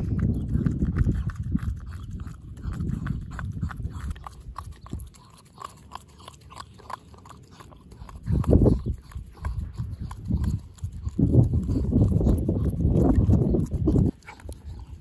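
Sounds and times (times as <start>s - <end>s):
dog licking: 0.0s - 15.0s.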